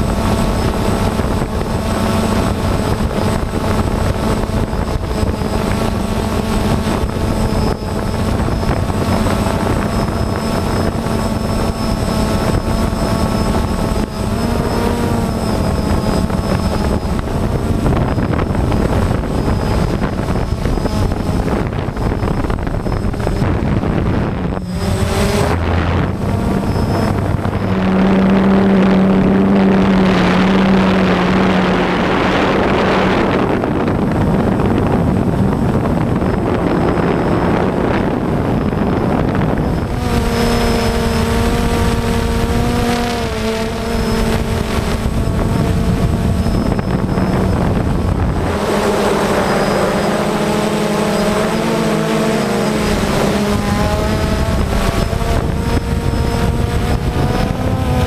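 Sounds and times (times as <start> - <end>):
drone propellers buzzing: 0.0 - 58.0
wind rush: 0.0 - 58.0.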